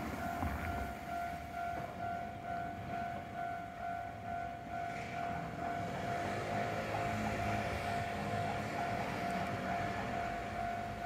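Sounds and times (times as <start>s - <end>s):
level crossing warning bell: 0.0s - 11.0s.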